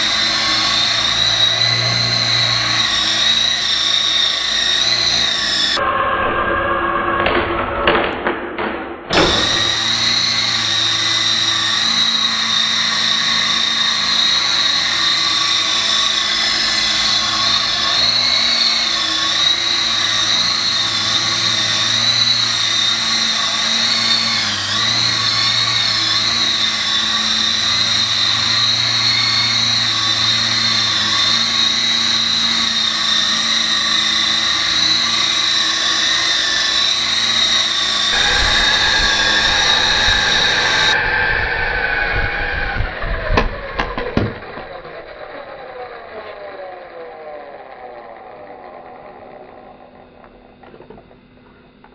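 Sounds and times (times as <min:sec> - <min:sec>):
rc helicopter motor whine: 0:00.0 - 0:06.7, 0:09.1 - 0:51.1.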